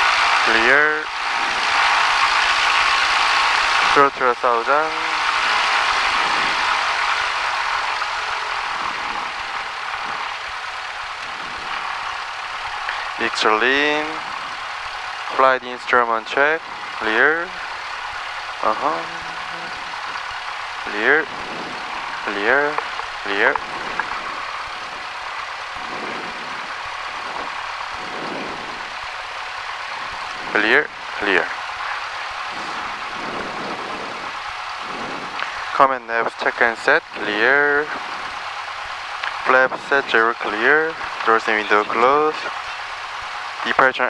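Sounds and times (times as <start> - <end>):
light aircraft engine droning: 0.0 - 44.0.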